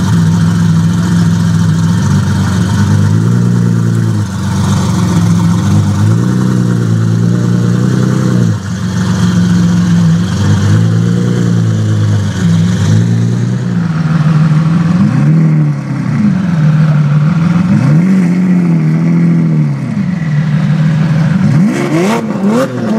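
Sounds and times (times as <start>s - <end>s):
car engine idling: 0.0s - 22.9s
engine throttle blips: 0.0s - 22.9s.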